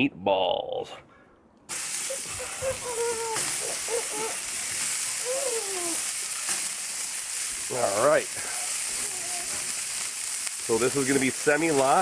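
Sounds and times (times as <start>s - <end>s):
meat sizzling on a griddle: 1.7s - 12.0s.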